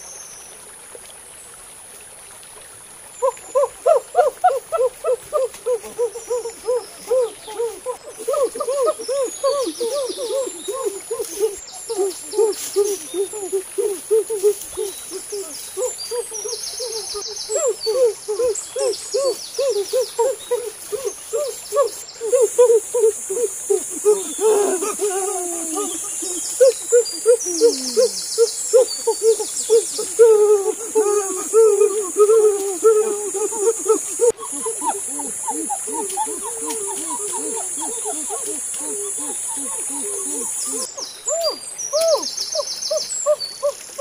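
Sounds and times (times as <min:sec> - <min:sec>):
bird hooting calls: 0:03.2 - 0:44.0.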